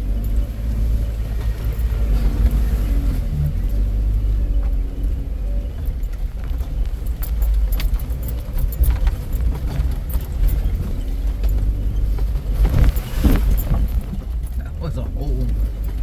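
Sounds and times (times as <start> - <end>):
vehicle body rattling: 0.0 - 16.0
vehicle low rumble: 0.0 - 16.0.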